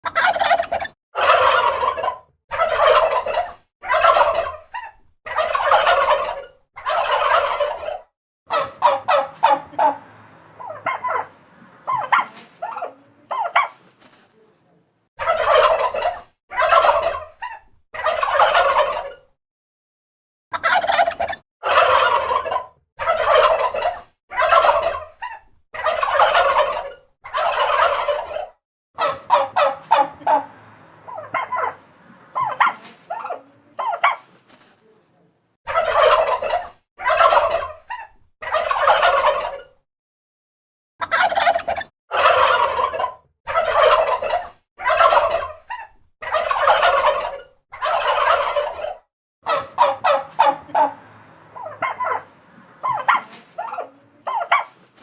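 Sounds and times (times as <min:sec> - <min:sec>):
turkey gobbling: 0:00.0 - 0:14.0, 0:15.2 - 0:19.3, 0:20.5 - 0:34.5, 0:35.7 - 0:39.8, 0:41.0 - 0:55.0.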